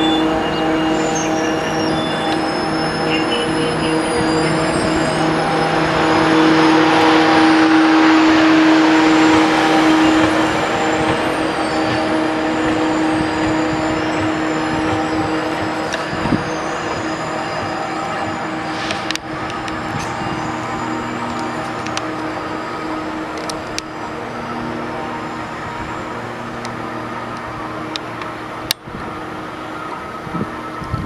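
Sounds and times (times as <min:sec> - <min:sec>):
sustained tone: 0:00.0 - 0:31.0
train rumbling: 0:00.0 - 0:31.0.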